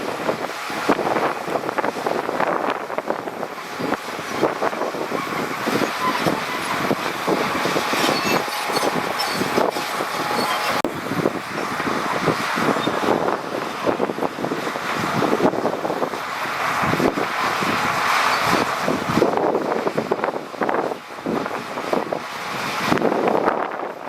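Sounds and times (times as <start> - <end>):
heavy machinery rumbling over stone: 0.0 - 20.2.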